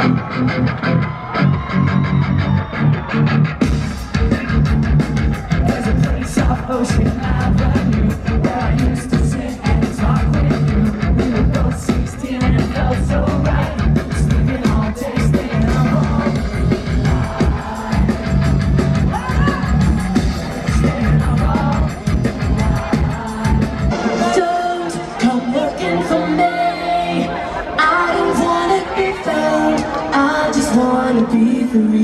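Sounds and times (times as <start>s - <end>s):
rock band playing live: 0.0s - 31.2s
electric guitars: 0.0s - 32.0s
person singing: 4.1s - 32.0s.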